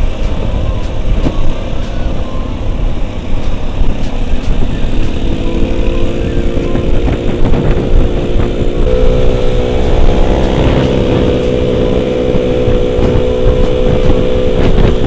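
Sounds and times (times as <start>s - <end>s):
scooter engine running: 0.0s - 15.0s
wind rumble on microphone: 0.0s - 15.0s.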